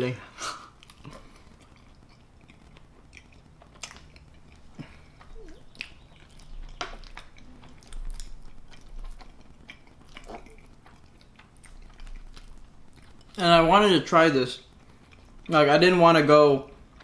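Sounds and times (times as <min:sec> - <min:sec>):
person chewing food: 0:00.5 - 0:13.6, 0:14.6 - 0:15.8, 0:16.6 - 0:17.0.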